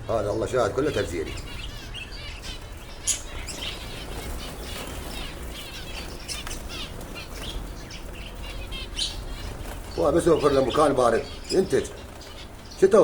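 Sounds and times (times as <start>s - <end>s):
small birds chirping: 0.0s - 13.0s
wings flapping: 0.9s - 13.0s.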